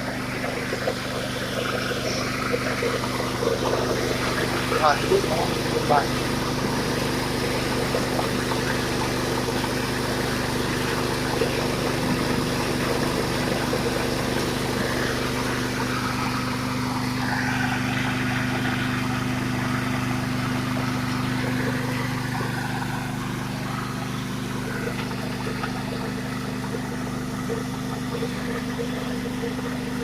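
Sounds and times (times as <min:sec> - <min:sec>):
hulling machine engine drone: 0:00.0 - 0:30.0
noisy rush of coffee hulling: 0:00.0 - 0:30.0.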